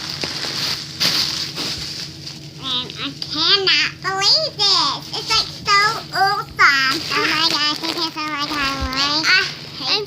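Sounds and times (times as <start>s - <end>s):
foil balloon crinkling: 0.0s - 10.0s.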